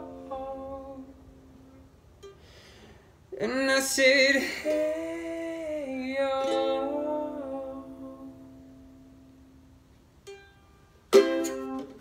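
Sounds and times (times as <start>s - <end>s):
soft ukulele pluck: 0.0s - 2.4s, 4.6s - 12.0s
ukulele chords: 0.0s - 2.8s, 4.4s - 12.0s.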